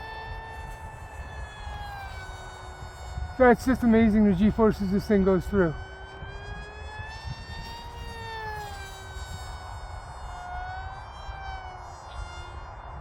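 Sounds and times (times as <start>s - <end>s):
electric motor and propeller whining: 0.0s - 13.0s
wind rumbling on microphone: 0.0s - 13.0s.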